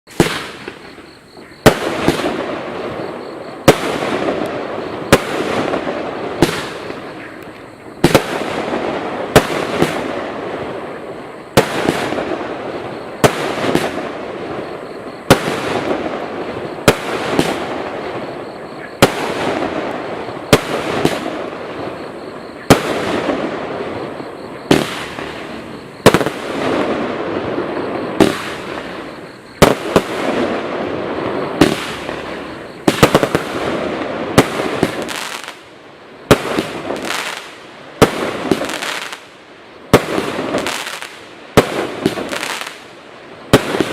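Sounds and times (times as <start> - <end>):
firework shots firing: 0.1 - 0.9, 1.6 - 3.0, 3.6 - 7.4, 8.0 - 10.9, 11.5 - 22.0, 22.6 - 35.6, 36.3 - 39.3, 39.9 - 42.9, 43.5 - 43.9
firework crackling: 0.1 - 43.9.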